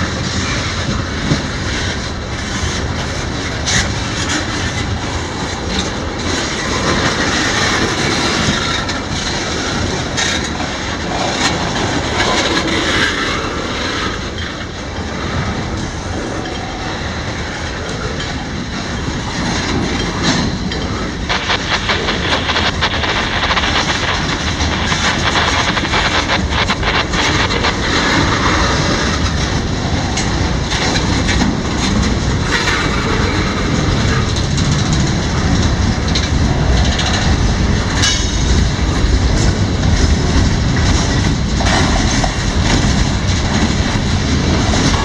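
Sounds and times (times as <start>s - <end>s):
clatter over rail joints: 0.0s - 45.0s
train wheels rumbling on rails: 0.0s - 45.0s.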